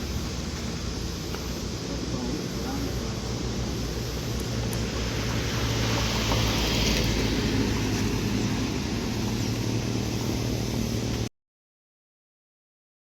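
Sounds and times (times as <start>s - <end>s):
road noise: 0.0s - 11.3s
vehicle engine hum: 0.0s - 11.3s.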